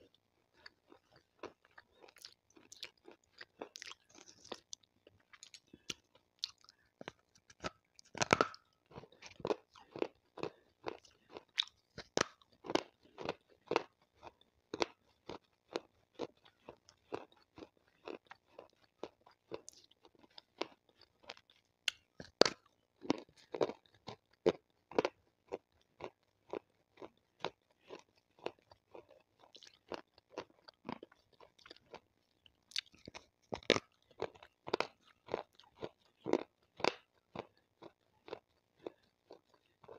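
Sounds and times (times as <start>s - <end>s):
chewing and crunching stone: 0.0s - 39.9s.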